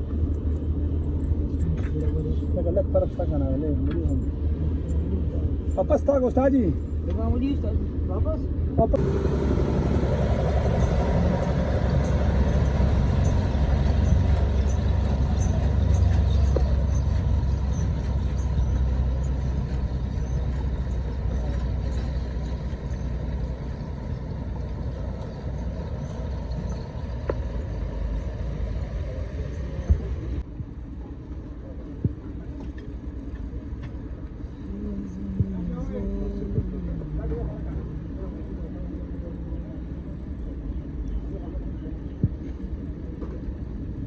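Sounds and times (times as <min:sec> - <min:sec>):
diesel engine rumbling: 0:00.0 - 0:44.0.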